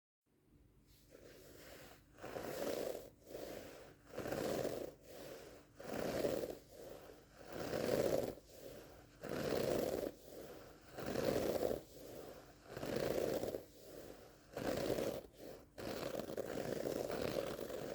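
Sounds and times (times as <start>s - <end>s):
scratching on a carpet rug: 0.9s - 17.9s.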